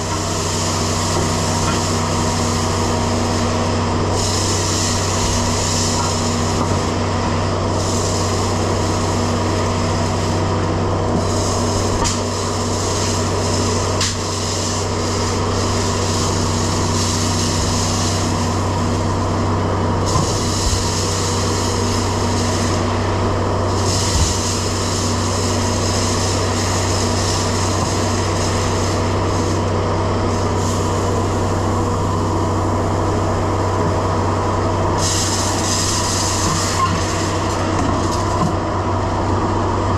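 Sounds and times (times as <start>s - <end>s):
air and corn rushing: 0.0s - 39.9s
grain vacuum machine humming: 0.0s - 39.9s.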